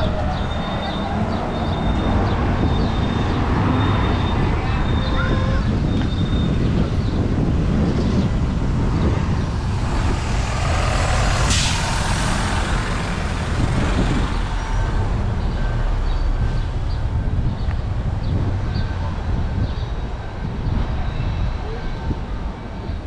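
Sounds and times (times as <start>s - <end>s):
diesel engines rumbling: 0.0s - 23.0s.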